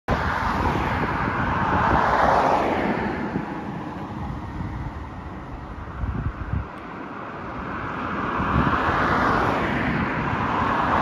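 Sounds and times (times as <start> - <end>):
wind rumble on microphone: 0.1 - 11.0.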